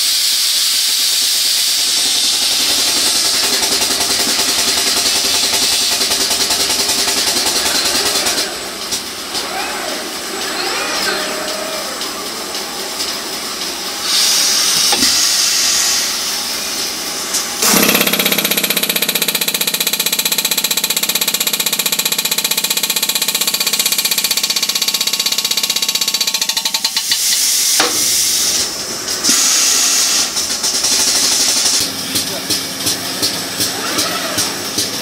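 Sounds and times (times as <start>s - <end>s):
belt grinder hissing: 0.1s - 31.8s.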